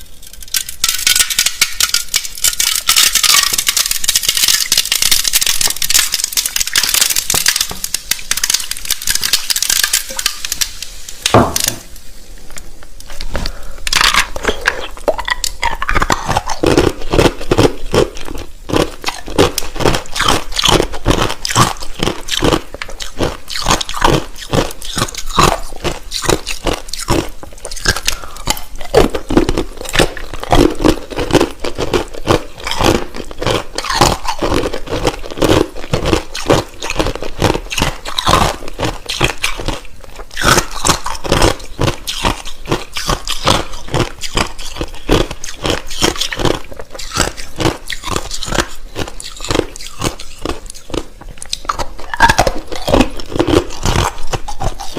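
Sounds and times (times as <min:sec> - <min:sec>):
chewing crushed ice: 0:00.0 - 0:10.7, 0:13.1 - 0:54.9.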